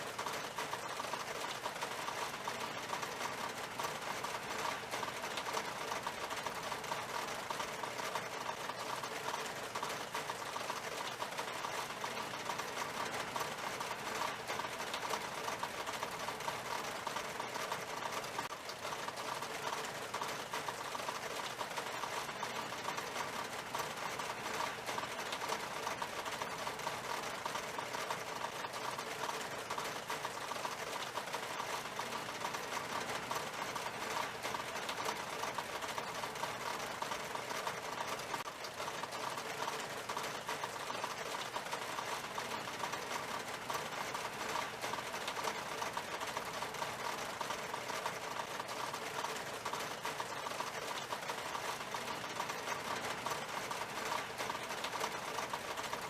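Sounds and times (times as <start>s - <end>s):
rain tapping on window glass: 0.0s - 56.0s.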